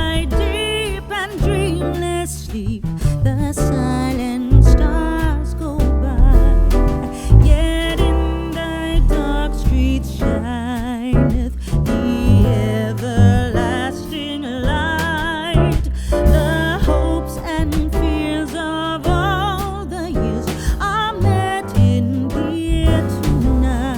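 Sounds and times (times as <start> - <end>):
upbeat song with singer and guitar: 0.0 - 23.9.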